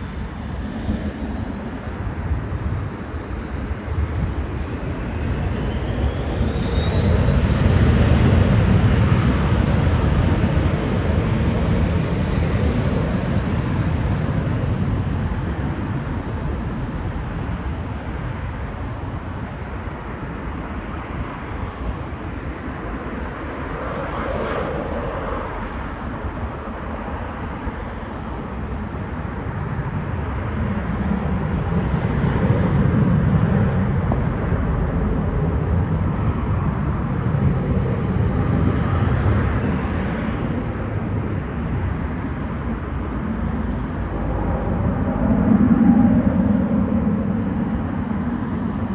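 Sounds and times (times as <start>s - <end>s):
jet engine rumble and roar: 0.0s - 48.9s
jet engine whine: 0.0s - 48.9s.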